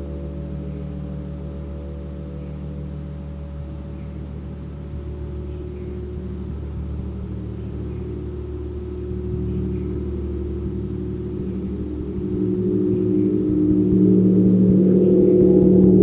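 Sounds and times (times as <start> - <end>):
gong low drone: 0.0 - 16.0.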